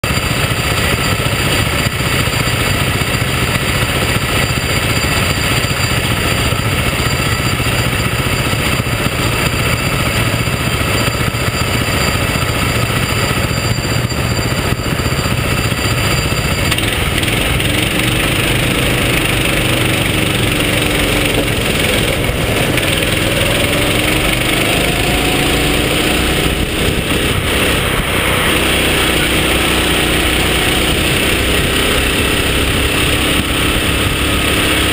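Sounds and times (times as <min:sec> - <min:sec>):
go-kart engine revving: 0:00.0 - 0:34.9.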